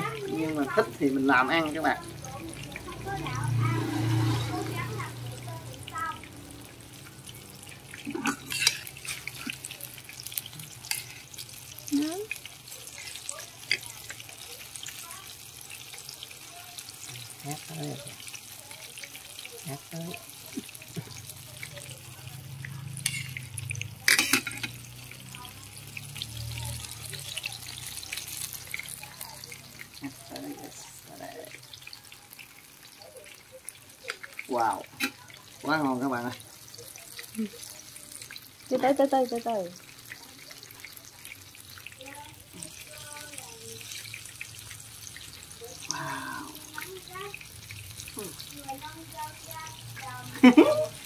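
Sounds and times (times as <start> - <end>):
fritters sizzling in hot oil: 0.0 - 51.0
oil crackling: 0.0 - 51.0.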